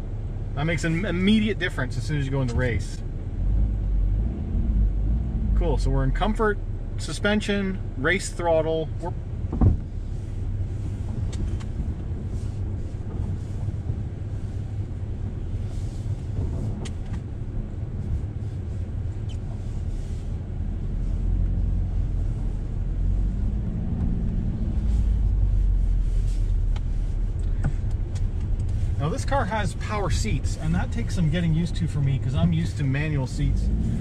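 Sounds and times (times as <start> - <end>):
car engine rumble from inside cabin: 0.0 - 34.0.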